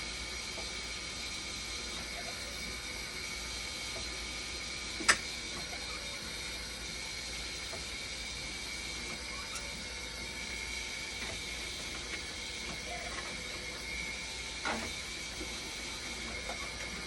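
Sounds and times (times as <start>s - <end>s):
machine humming with high whine: 0.0s - 17.0s.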